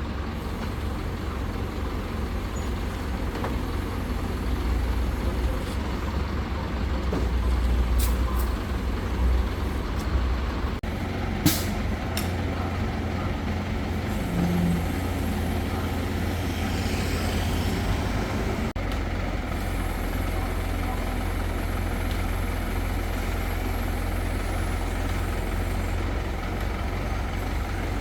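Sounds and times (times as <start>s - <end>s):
heavy engine rumbling: 0.0s - 28.0s.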